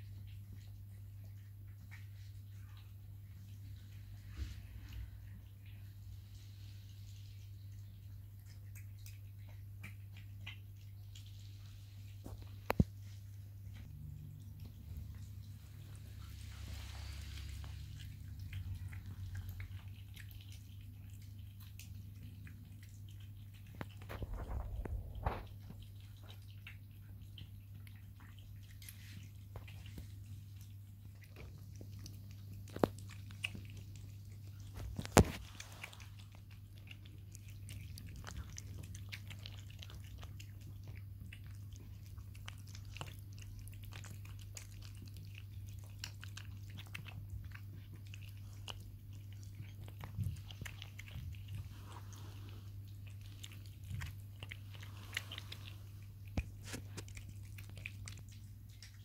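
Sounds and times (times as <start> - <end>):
cats chewing and licking: 0.0 - 59.0
steady low hum: 0.0 - 59.0.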